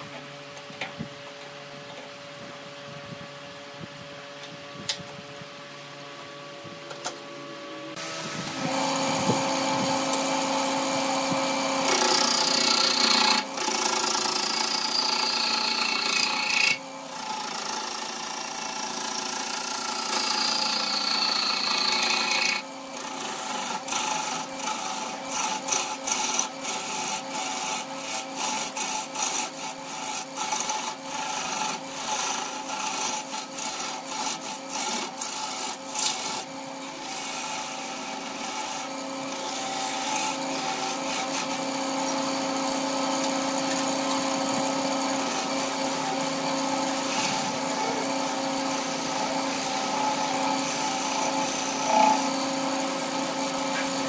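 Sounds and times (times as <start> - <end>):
gouge cutting wood on lathe: 8.0 - 54.0.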